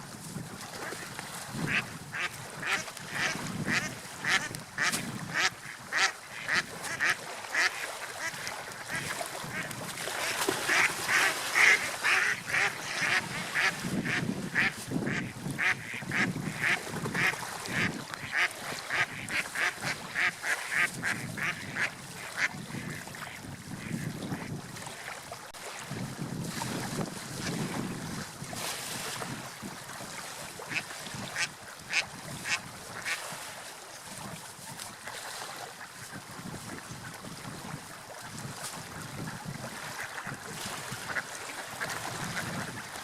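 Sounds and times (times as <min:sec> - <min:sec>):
surf: 0:00.0 - 0:43.0
wind: 0:00.0 - 0:43.0.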